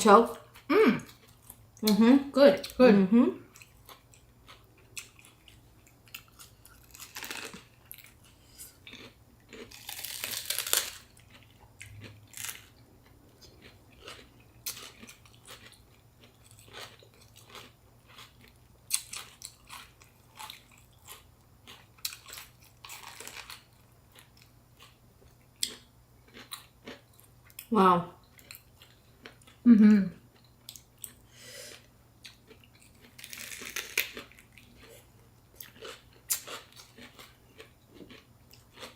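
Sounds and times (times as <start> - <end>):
chewing and crunching: 0.4 - 2.0, 3.4 - 29.7, 30.3 - 38.9.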